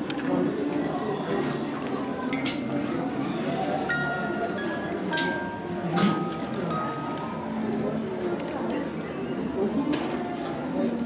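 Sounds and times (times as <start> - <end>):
shop chatter: 0.0 - 11.0.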